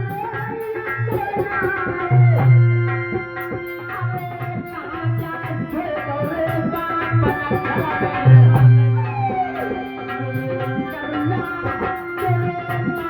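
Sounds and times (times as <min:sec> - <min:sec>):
melody instrument held notes: 0:00.0 - 0:13.0
tabla drumming: 0:00.0 - 0:13.0.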